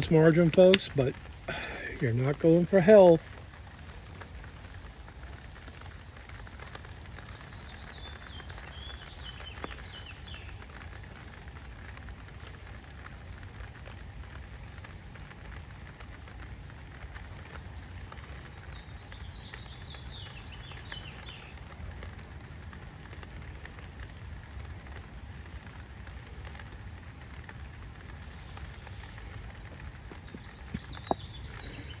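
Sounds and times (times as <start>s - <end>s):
light rain on a tent canopy: 0.0s - 32.0s.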